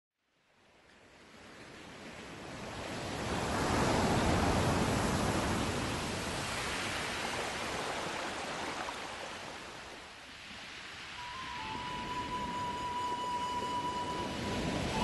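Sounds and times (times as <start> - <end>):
ocean waves rushing: 1.4 - 15.0.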